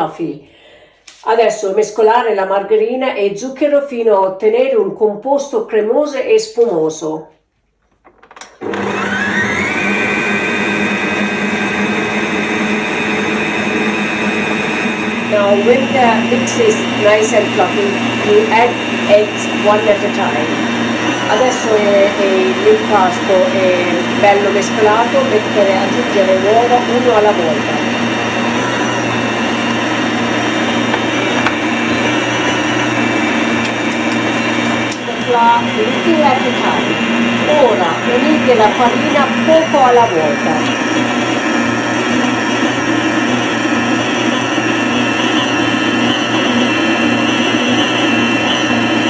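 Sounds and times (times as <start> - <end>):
electric mixer running: 8.4 - 49.0.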